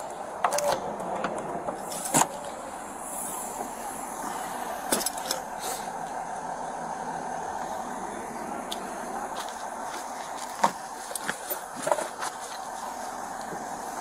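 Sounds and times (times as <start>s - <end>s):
vehicle engines idling: 0.0s - 14.0s.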